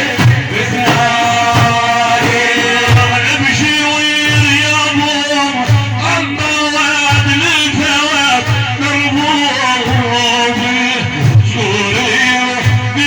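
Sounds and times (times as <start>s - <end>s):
low drum beats: 0.0s - 13.0s.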